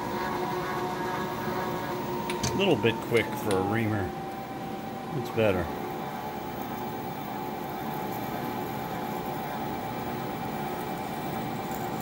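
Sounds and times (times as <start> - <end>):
milling machine spindle hum: 0.0 - 12.0.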